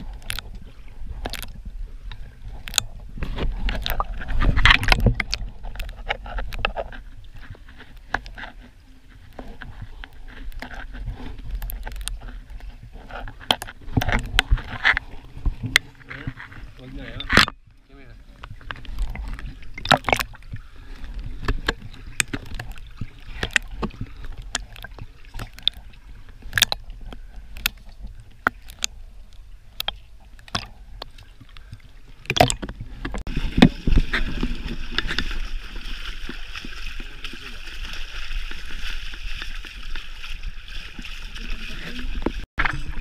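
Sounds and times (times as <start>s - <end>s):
water sloshing and splashing: 0.0s - 43.0s.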